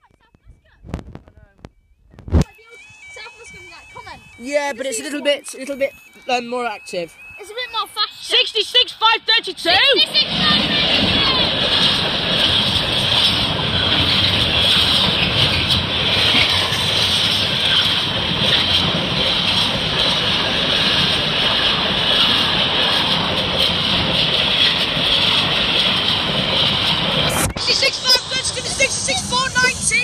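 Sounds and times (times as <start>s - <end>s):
train wheels rolling on rail: 3.1s - 30.0s.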